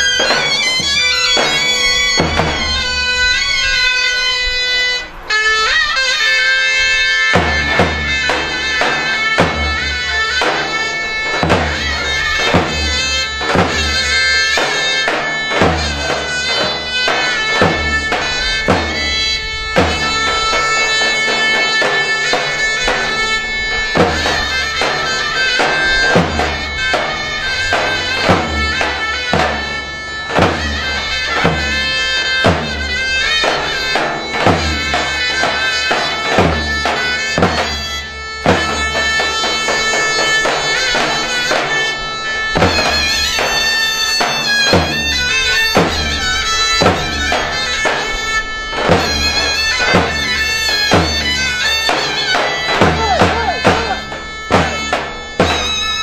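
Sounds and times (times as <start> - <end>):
shrill reed shawm melody: 0.0 - 56.0.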